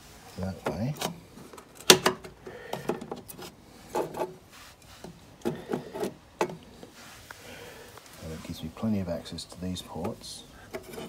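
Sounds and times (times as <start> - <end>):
modules scraping and knocking: 0.0 - 7.2, 8.1 - 11.0.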